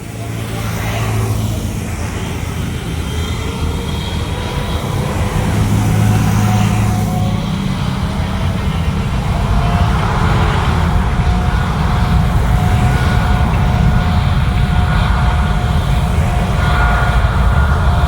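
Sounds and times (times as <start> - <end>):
faint whining tones: 0.0 - 18.0
jet engines rumbling: 0.0 - 18.0.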